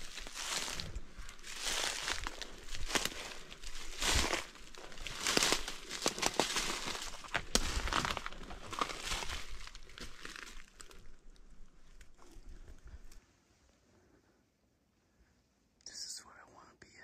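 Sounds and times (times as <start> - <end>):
rustling from person moving: 0.0 - 13.9.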